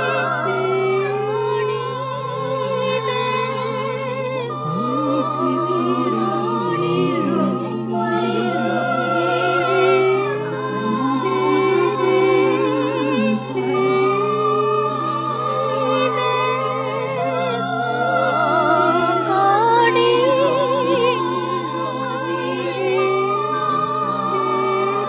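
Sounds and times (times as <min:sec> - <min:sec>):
low drone: 0:00.0 - 0:25.0
voices singing with vibrato: 0:00.0 - 0:25.0.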